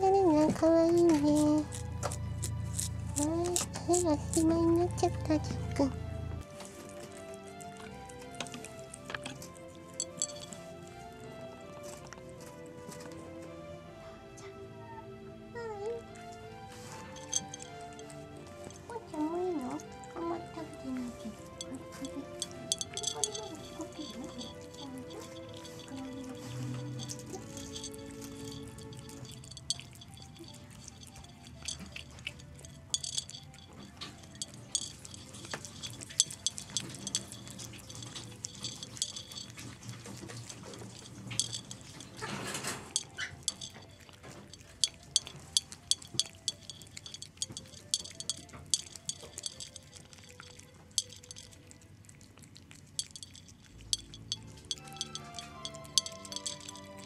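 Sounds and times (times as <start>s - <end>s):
cat eating from ceramic dish: 0.0s - 5.7s, 6.4s - 13.4s, 16.1s - 57.0s.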